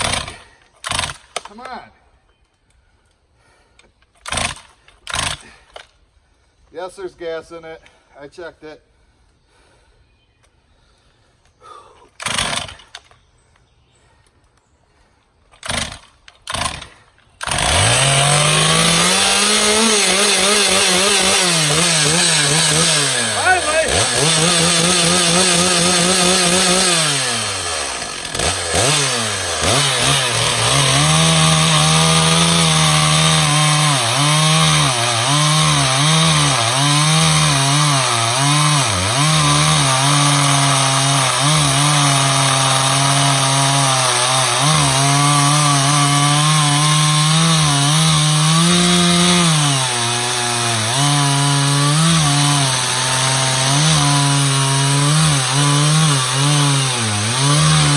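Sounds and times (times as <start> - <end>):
chainsaw cutting wood: 0.0 - 1.7, 4.2 - 5.9, 12.2 - 13.1, 15.5 - 57.9.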